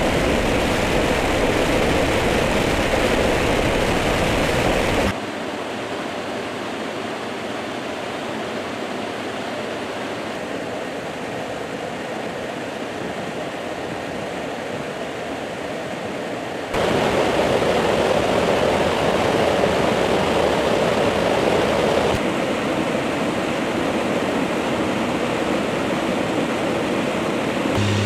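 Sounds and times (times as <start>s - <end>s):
airflow rush and aircraft engine: 0.0s - 28.0s.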